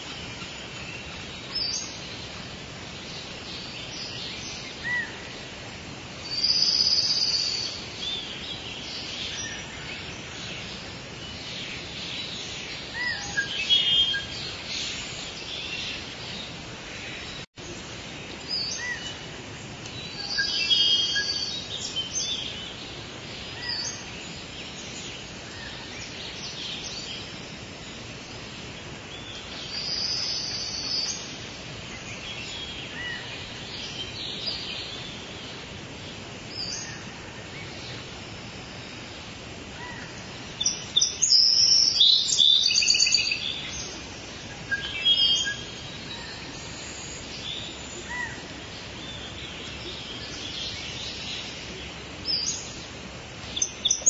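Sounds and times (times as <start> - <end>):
steady background hiss: 0.0 - 54.0
birds chirping and singing: 6.2 - 35.6, 39.8 - 54.0.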